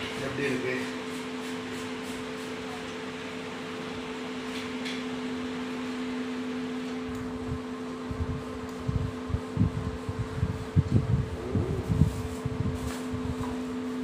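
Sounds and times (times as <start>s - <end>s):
fan humming: 0.0s - 14.0s.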